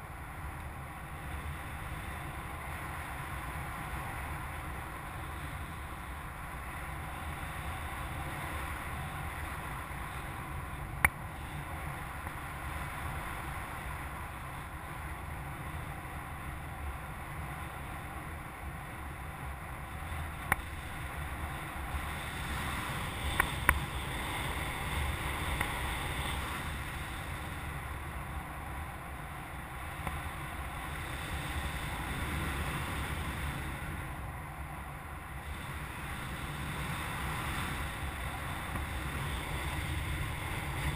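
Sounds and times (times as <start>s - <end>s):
air rushing over glider: 0.0s - 40.9s.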